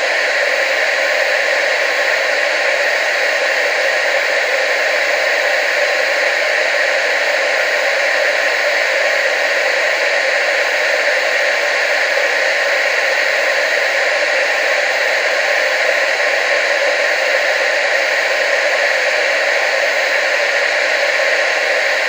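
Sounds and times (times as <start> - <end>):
television static hiss: 0.0 - 22.0.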